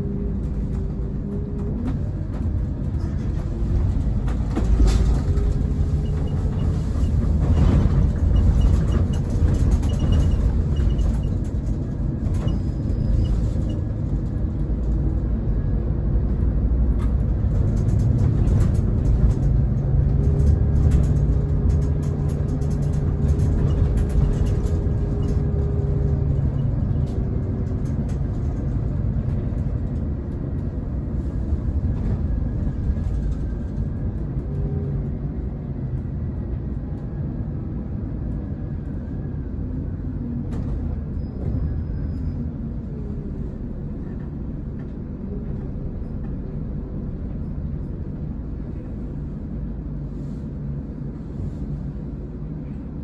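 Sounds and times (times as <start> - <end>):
coach diesel engine and road rumble: 0.0 - 53.0.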